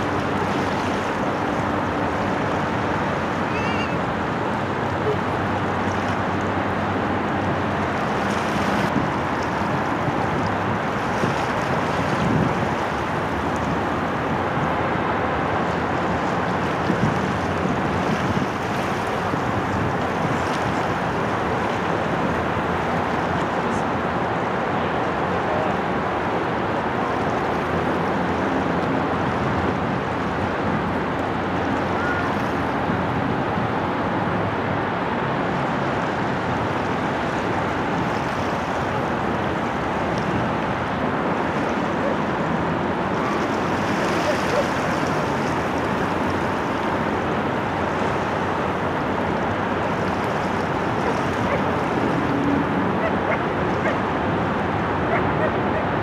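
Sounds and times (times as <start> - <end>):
water along shoreline: 0.0 - 56.0
wind: 0.0 - 56.0.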